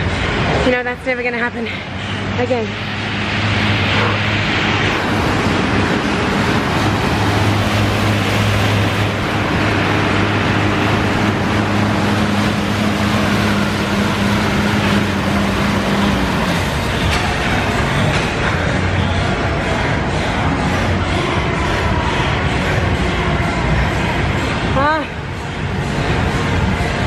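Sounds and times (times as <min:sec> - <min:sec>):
exercise bike fan whooshing: 0:00.0 - 0:27.0
low hum: 0:00.0 - 0:27.0.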